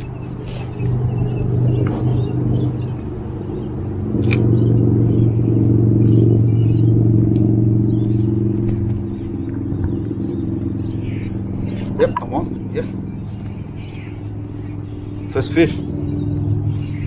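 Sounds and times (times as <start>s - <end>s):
motor droning: 0.0s - 17.0s.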